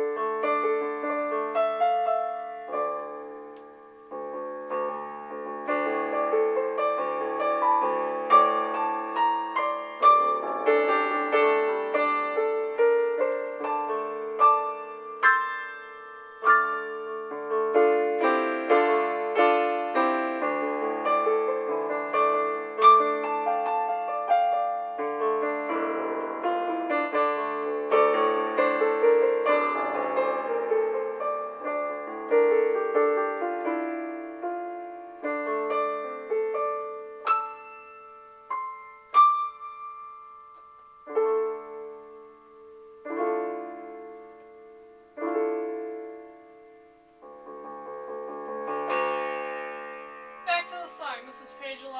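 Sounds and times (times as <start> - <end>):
solo piano music: 0.0 - 51.9.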